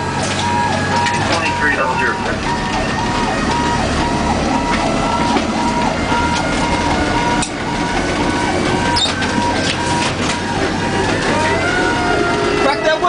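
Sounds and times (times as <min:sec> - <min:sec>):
engine and road rumble: 0:00.0 - 0:13.0
fire truck electronic siren: 0:00.0 - 0:13.0.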